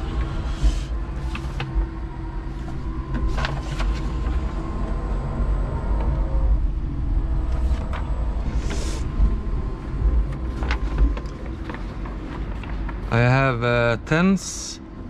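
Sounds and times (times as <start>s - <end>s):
forklift rumble with faint whine: 0.0s - 15.0s.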